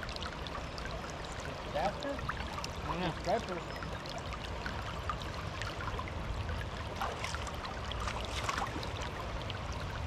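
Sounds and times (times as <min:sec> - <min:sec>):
river water rippling: 0:00.0 - 0:10.0.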